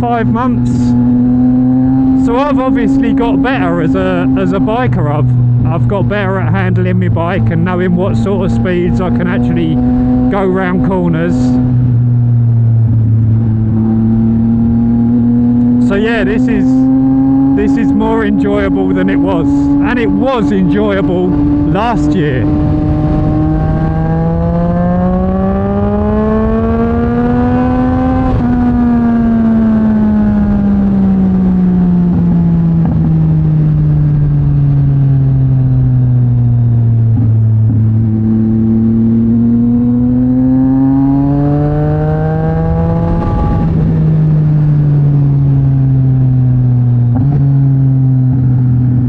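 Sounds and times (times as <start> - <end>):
motorcycle engine revving: 0.0 - 49.0
wind and road noise: 0.0 - 49.0.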